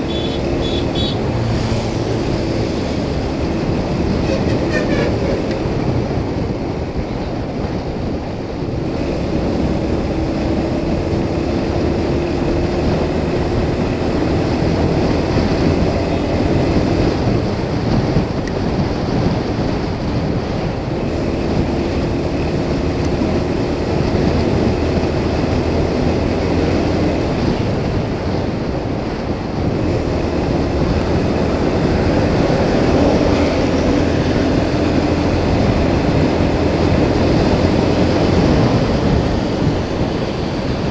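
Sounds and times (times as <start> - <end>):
motorcycle engine hum: 0.0 - 40.9
wind rush: 0.0 - 40.9.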